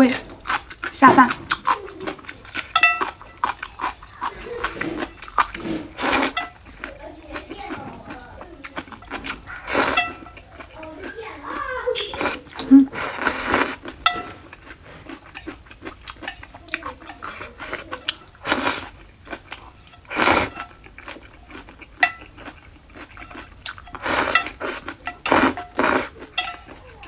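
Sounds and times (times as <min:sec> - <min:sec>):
utensils clinking against a bowl: 0:00.0 - 0:27.0.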